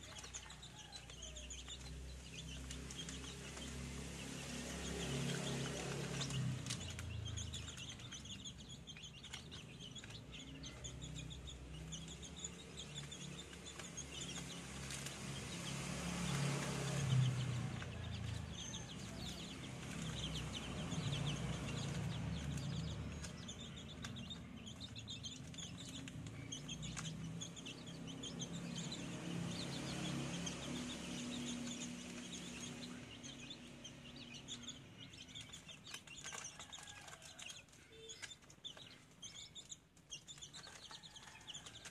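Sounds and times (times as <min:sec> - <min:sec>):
chicks cheeping and clucking: 0:00.0 - 0:41.9.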